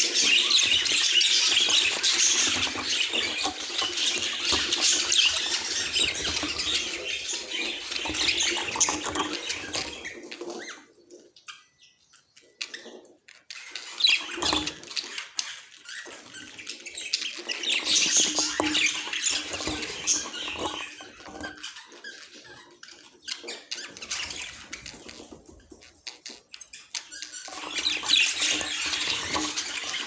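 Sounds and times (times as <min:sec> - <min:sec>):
budgerigars chattering and squawking: 0:00.0 - 0:30.0.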